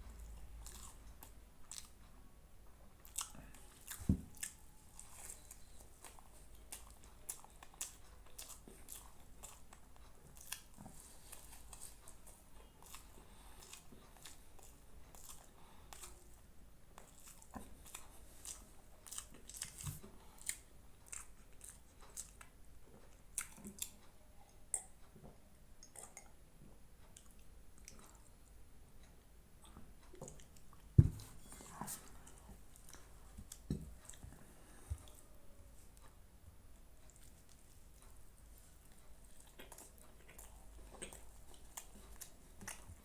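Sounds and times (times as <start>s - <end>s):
mouth chewing with crunches: 0.0s - 2.2s, 3.0s - 28.6s, 29.6s - 36.1s, 37.0s - 43.0s.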